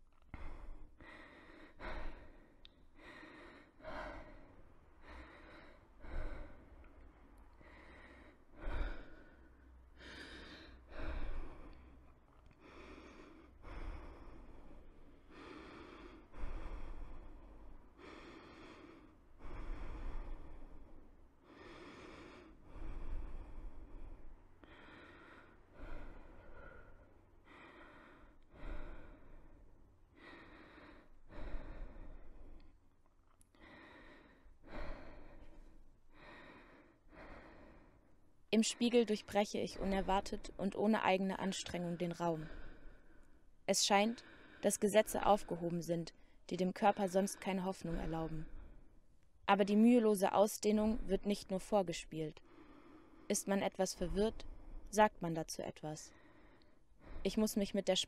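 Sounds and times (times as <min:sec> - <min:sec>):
person breathing: 0:00.0 - 0:32.8, 0:33.5 - 0:38.5, 0:41.7 - 0:49.1, 0:52.3 - 0:53.3, 0:56.0 - 0:57.3.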